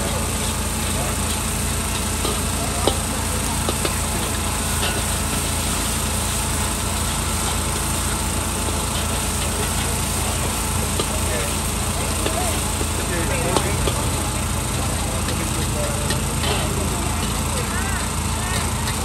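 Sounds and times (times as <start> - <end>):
food frying in a wok: 0.0 - 19.0.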